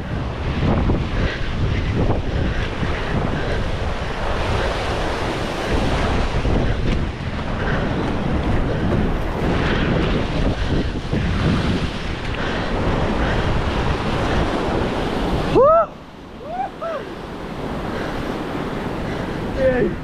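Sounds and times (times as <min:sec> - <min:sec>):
ocean waves breaking on rocks: 0:00.0 - 0:20.0
wind buffeting microphone: 0:00.0 - 0:20.0.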